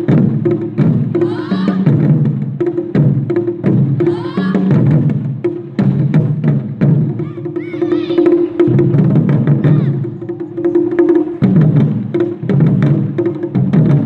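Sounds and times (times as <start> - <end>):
taiko drums played rhythmically: 0.0 - 14.0.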